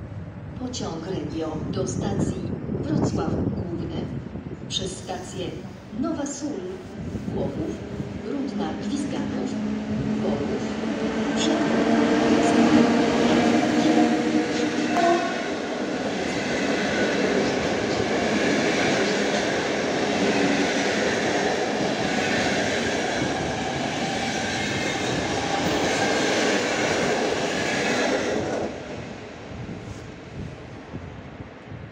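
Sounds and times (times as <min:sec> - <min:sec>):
train wheels rumbling on track: 0:04.1 - 0:31.9.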